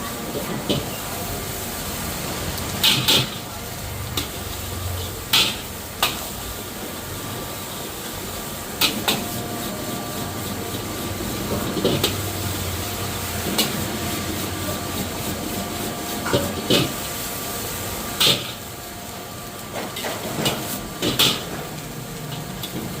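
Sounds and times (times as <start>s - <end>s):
rice frying hiss: 0.0s - 23.0s.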